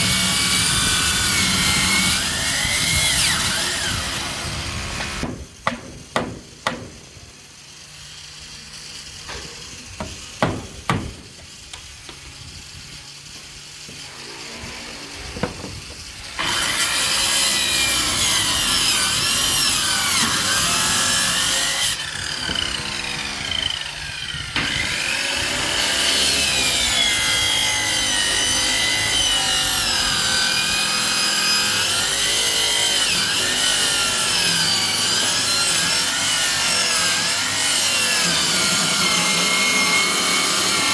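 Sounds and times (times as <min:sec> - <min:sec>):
electric power saw cutting: 0:00.0 - 0:40.9.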